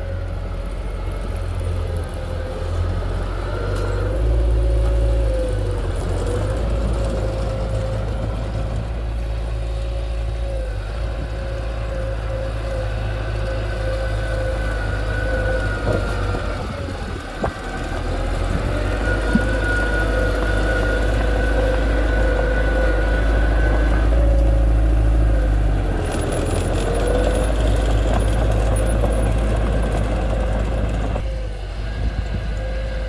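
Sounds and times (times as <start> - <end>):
heavy machinery engine running: 0.0 - 33.0.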